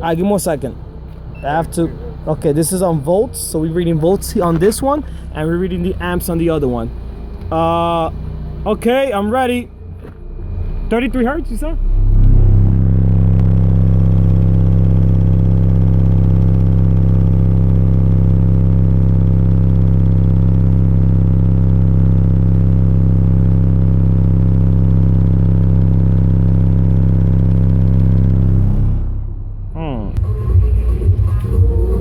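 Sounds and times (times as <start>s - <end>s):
low bass test tone: 0.0s - 32.0s.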